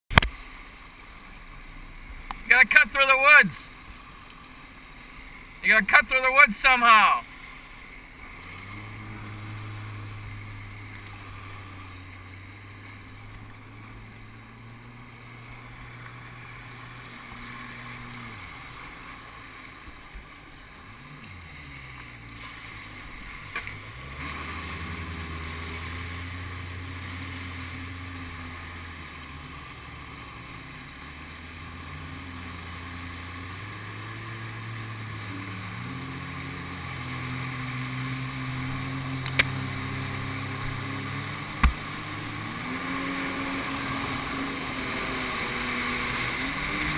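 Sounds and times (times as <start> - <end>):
jet ski engine running: 0.1 - 46.9
water rushing and spraying: 0.1 - 46.9.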